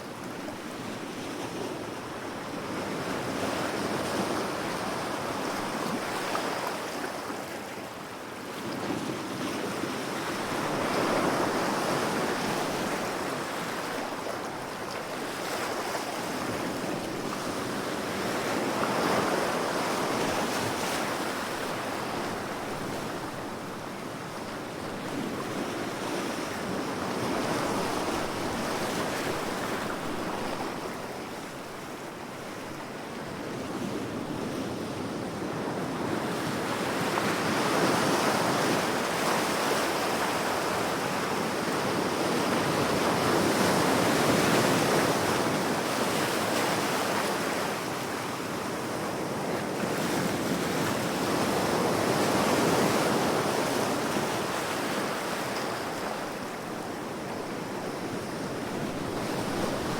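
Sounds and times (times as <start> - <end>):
ocean waves breaking on shore: 8.5 - 59.9.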